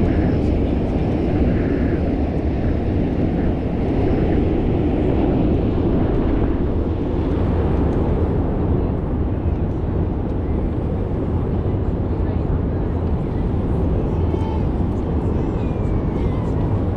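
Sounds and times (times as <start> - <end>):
wind rumble on microphone: 0.0 - 16.9.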